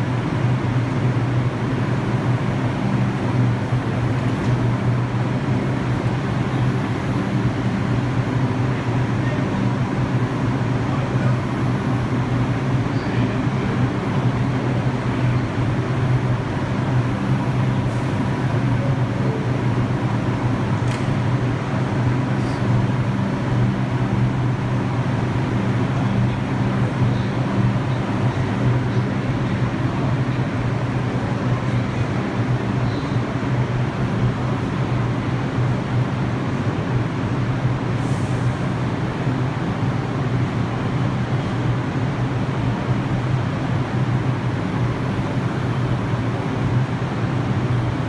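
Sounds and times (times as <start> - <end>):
subway train humming: 0.0 - 48.0.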